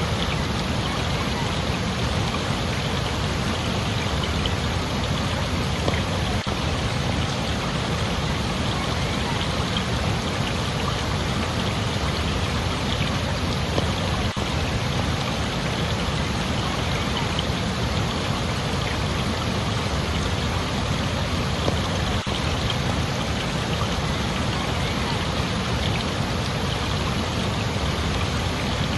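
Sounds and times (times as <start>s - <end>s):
rushing water: 0.0s - 28.9s.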